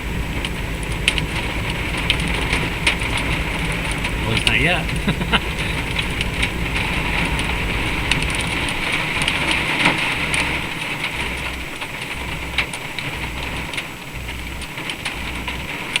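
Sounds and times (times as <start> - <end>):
hail falling: 0.0 - 16.0
ticks of single hailstones: 0.0 - 16.0.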